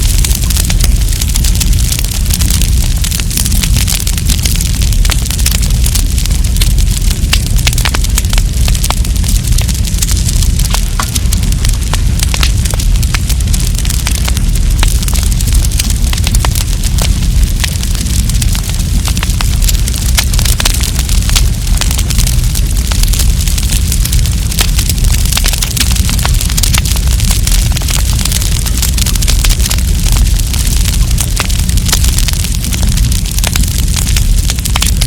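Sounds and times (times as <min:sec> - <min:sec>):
campfire crackling and popping: 0:00.0 - 0:35.0
steady low rumble: 0:00.0 - 0:35.0.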